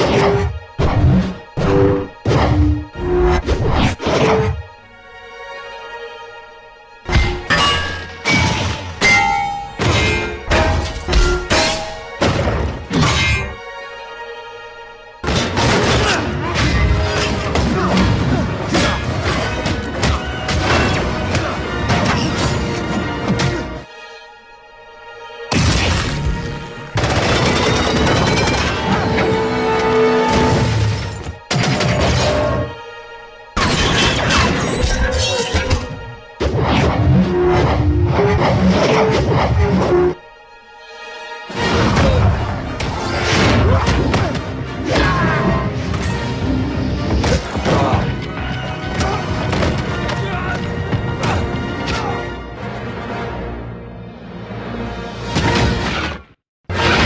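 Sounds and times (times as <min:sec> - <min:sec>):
music: 0:00.0 - 0:57.0.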